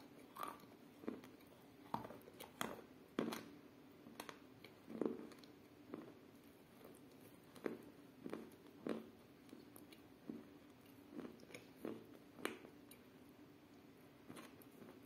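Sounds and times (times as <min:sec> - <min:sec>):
gritty chewing crunches: 0:00.0 - 0:13.0.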